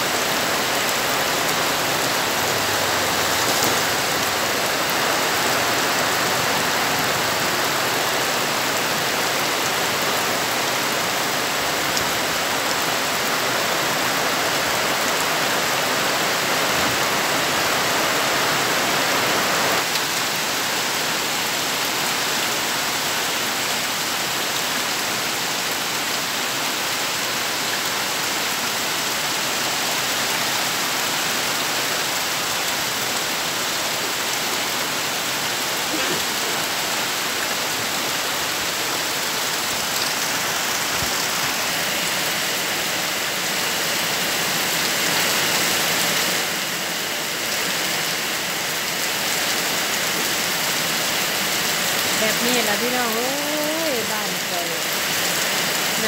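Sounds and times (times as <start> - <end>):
heavy rain on trees and ground: 0.0 - 56.0.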